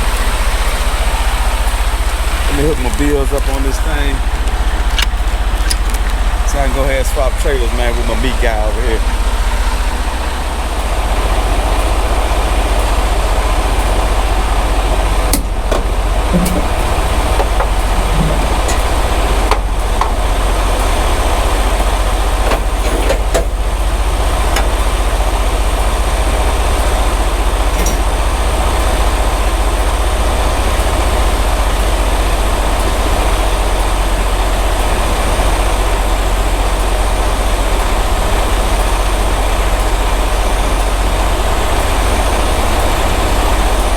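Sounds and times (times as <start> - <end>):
diesel truck engine rumbling: 0.0 - 43.9.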